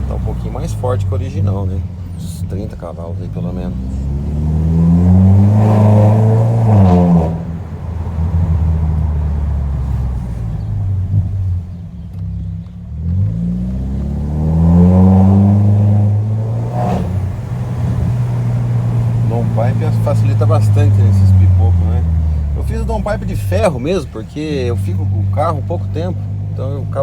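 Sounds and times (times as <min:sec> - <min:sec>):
car engine revving hard: 0:00.0 - 0:27.0.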